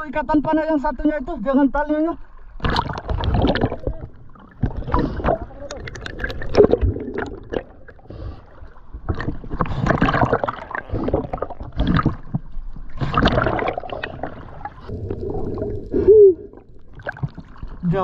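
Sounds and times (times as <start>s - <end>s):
muffled underwater sloshing: 2.2s - 18.0s.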